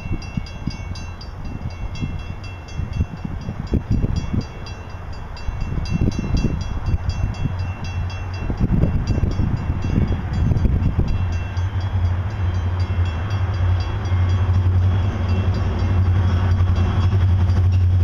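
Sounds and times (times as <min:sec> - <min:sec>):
diesel locomotives rumbling: 0:00.0 - 0:18.0.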